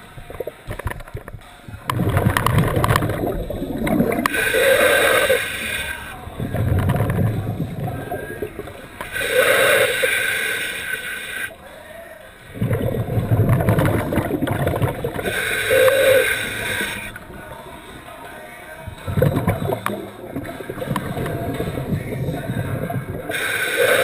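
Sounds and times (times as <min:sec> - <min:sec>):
exhaled bubbles burbling: 0:00.0 - 0:11.6, 0:12.5 - 0:18.2, 0:18.8 - 0:24.0
hissing regulator inhalation: 0:00.0 - 0:24.0.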